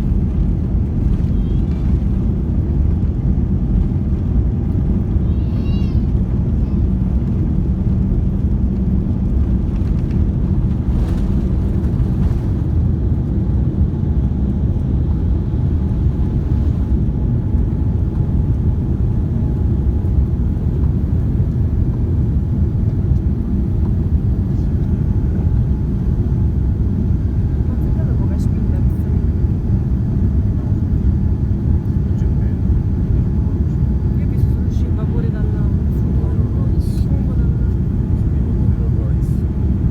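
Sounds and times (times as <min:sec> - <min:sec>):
airliner engine roar: 0:00.0 - 0:39.9.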